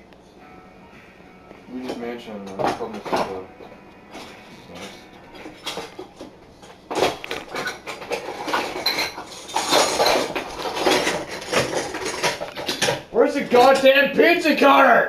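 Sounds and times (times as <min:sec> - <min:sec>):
dishes and utensils clattering: 0:01.8 - 0:13.9.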